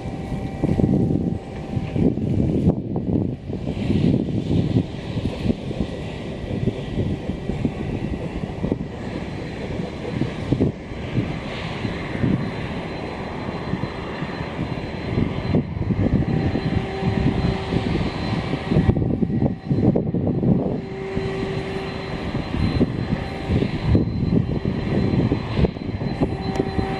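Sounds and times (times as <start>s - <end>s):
strong wind roaring in gusts: 0.0s - 26.9s.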